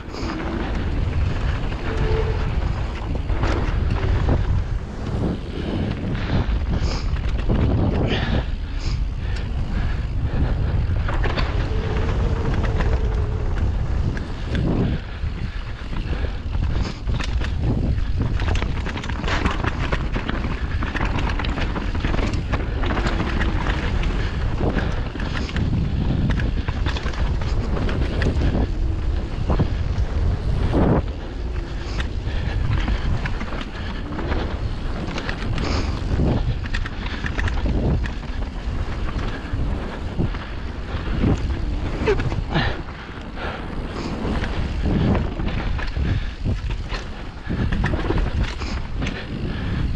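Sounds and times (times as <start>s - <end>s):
bike rattling and knocking: 0.0s - 49.9s
wind rumble on microphone: 0.0s - 49.9s.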